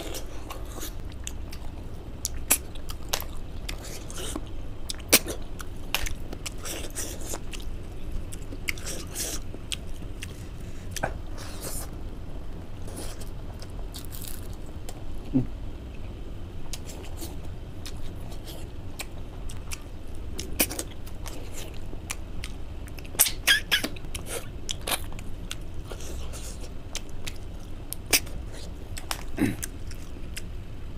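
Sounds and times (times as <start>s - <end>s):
chewing and lip smacks: 0.0s - 11.9s, 15.9s - 30.6s
low hum: 0.0s - 30.9s.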